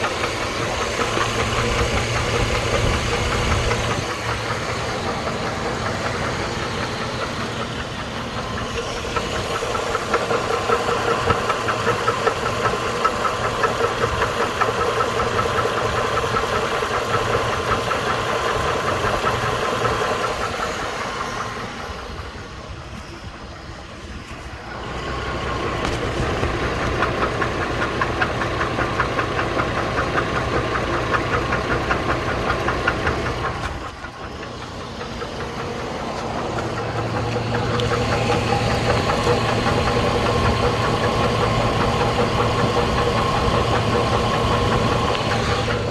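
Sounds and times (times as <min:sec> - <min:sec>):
engine running with knock: 0:00.0 - 0:45.9.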